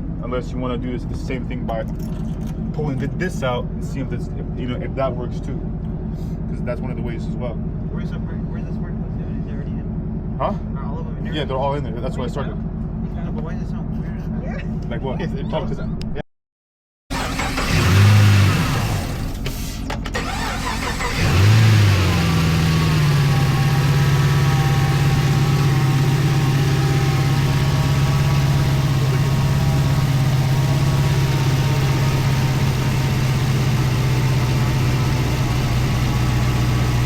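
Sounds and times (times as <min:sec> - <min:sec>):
car engine starting and idling: 0:00.0 - 0:14.9, 0:17.1 - 0:37.0.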